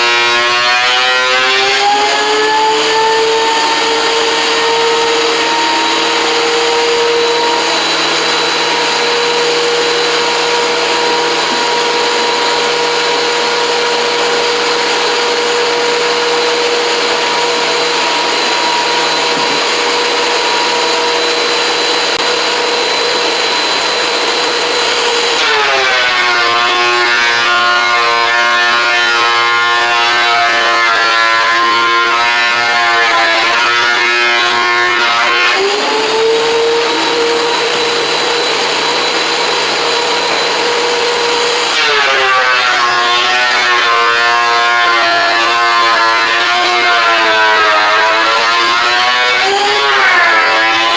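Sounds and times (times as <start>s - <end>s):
thickness planer whining: 0.0s - 50.9s.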